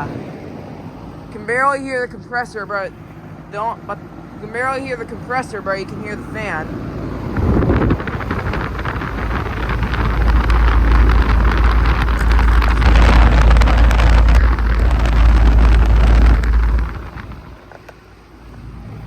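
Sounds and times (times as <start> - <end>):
air conditioner fan rushing: 0.0 - 19.0.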